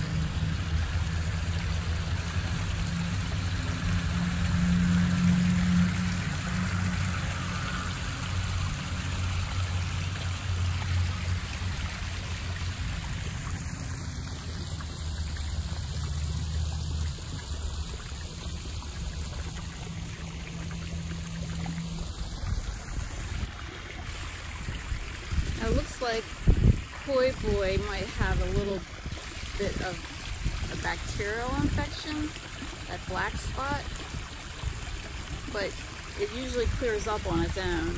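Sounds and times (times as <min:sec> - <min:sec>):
waterfall splashing trickle: 0:00.0 - 0:37.9.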